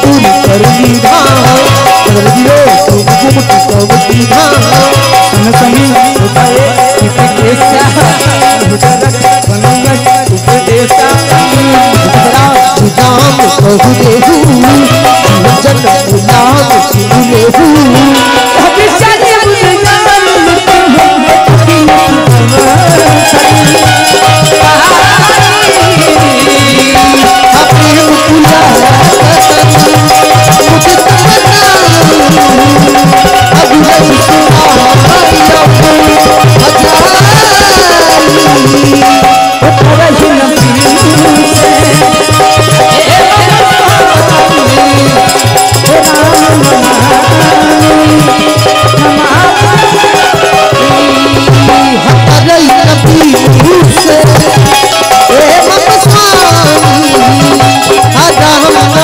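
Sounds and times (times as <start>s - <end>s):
dholak drumming: 0.0s - 59.0s
harmonium: 0.0s - 59.0s
sliding melody line: 0.0s - 59.0s.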